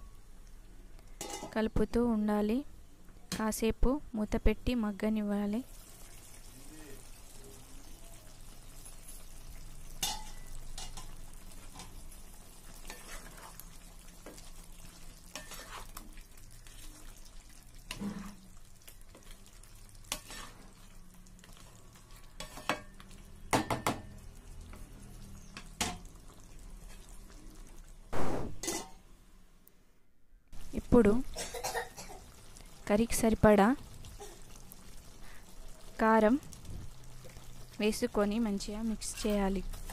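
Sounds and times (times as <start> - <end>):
chicken sizzling in oil: 5.2 - 28.8, 30.6 - 39.9.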